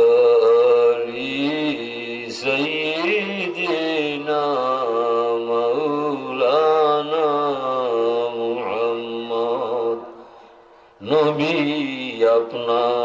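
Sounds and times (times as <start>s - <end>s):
man chanting melodically: 0.0s - 10.4s, 11.0s - 13.0s.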